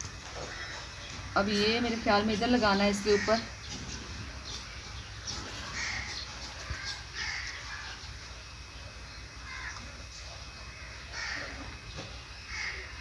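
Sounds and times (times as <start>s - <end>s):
bird calling: 0.2s - 13.0s.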